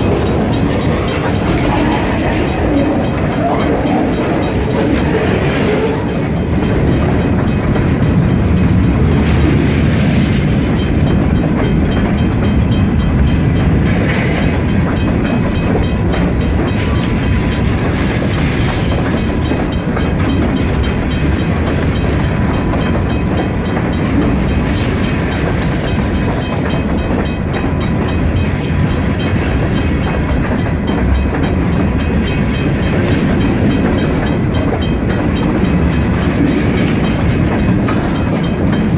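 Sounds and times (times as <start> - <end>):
freight train cars rolling past: 0.0 - 38.9.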